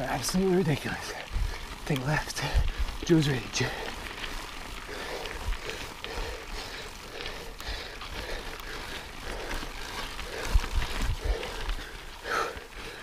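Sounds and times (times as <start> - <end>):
bike tyres on gravel trail: 0.0 - 13.0
small ticks and rattles: 0.0 - 13.0.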